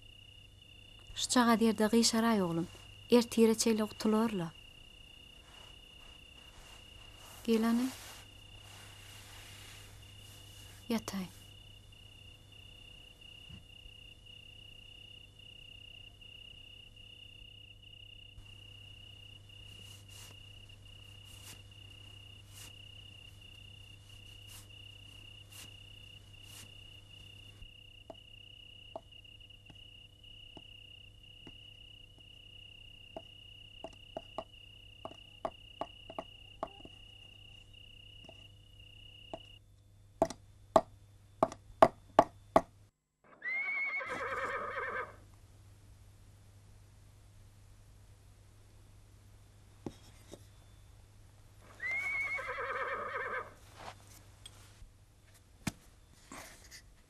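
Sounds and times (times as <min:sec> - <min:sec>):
cricket chirping: 0:00.0 - 0:42.7, 0:43.4 - 0:45.2, 0:48.7 - 0:54.6.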